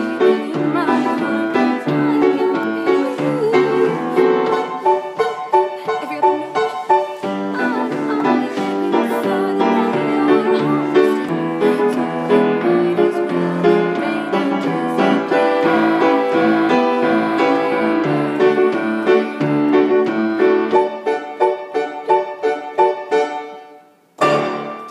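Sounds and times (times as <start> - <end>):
piano chords and melody: 0.0 - 24.9.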